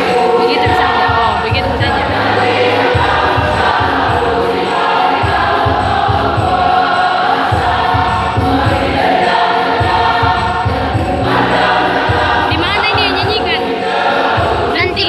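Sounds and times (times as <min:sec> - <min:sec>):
choir singing a hymn: 0:00.0 - 0:15.0
steady low beat: 0:00.0 - 0:15.0.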